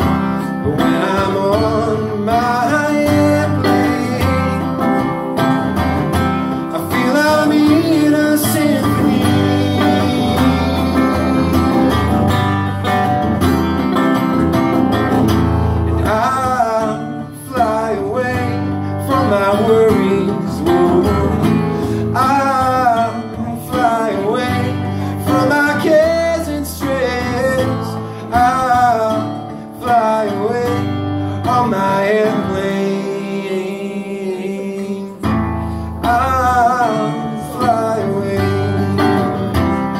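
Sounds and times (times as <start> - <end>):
acoustic guitars strumming chords: 0.0 - 39.9
bending guitar lead melody: 0.0 - 39.9.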